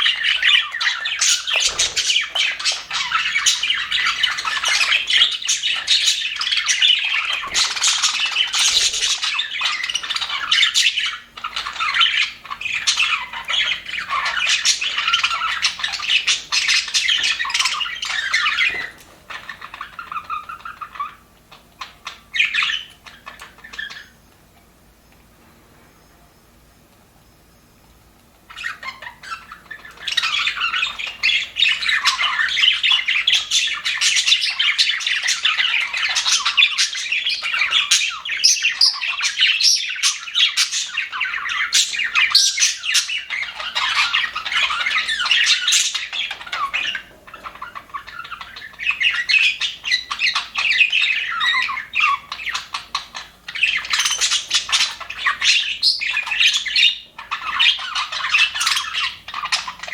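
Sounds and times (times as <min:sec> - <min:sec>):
budgerigars chattering: 0:00.0 - 0:24.2, 0:28.4 - 0:59.9.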